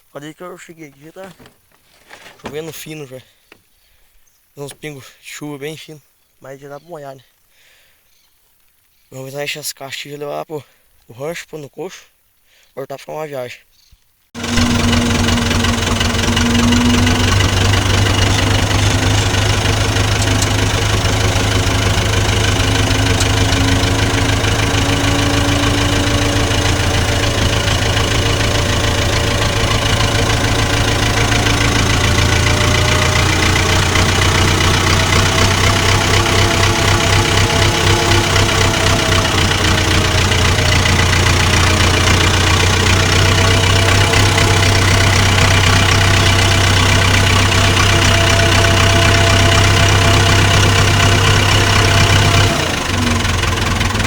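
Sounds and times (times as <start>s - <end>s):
tractor engine running: 0.0s - 3.7s, 4.6s - 5.0s, 14.4s - 54.0s.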